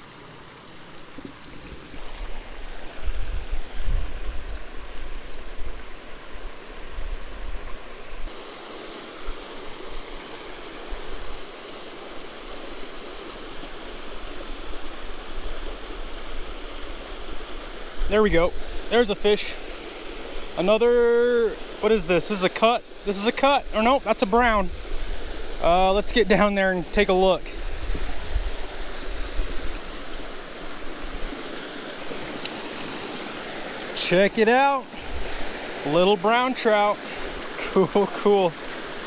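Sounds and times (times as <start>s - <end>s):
creek water rushing over rocks: 0.0s - 39.0s.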